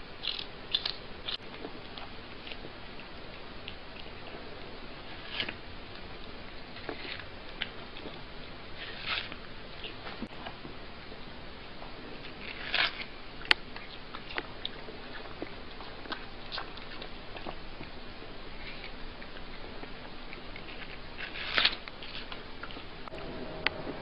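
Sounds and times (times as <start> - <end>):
cat crunching fruit: 0.2 - 24.0.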